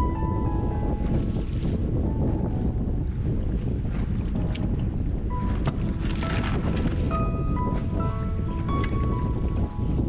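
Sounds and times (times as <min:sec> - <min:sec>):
wind buffeting microphone: 0:00.0 - 0:10.0
water slapping against hull: 0:00.9 - 0:10.0.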